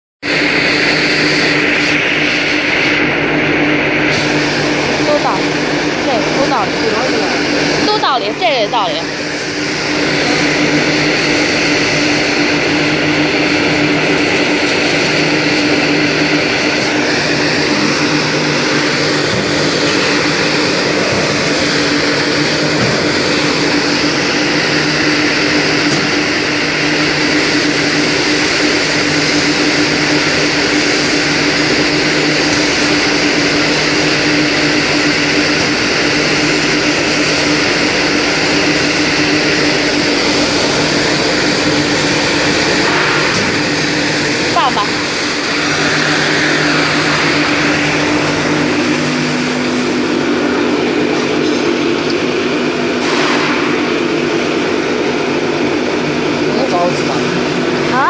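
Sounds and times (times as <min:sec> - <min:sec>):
electric mill motor humming: 0:00.2 - 0:58.0
grinding hiss: 0:00.3 - 0:57.3.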